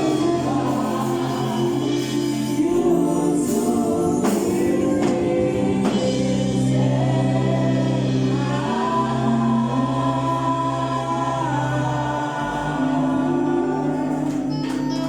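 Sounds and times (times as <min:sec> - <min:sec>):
gospel choir singing: 0:00.0 - 0:15.0.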